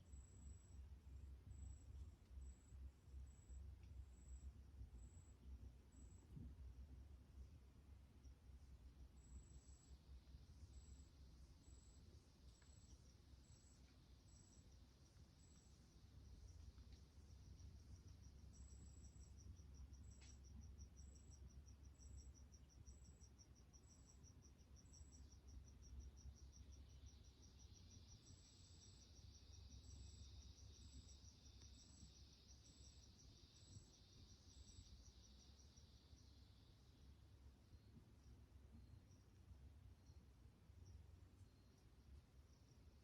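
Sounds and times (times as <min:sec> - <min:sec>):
cricket rapid even chirping: 0:00.0 - 0:43.0
faint low rumble: 0:00.0 - 0:43.0
higher-pitched cricket short chirps: 0:00.0 - 0:43.0.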